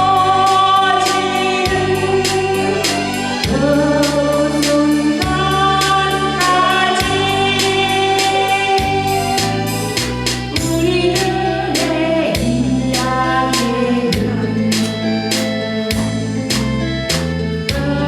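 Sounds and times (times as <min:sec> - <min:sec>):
woman singing: 0:00.0 - 0:16.6, 0:17.7 - 0:18.0
band backing track: 0:00.0 - 0:18.0.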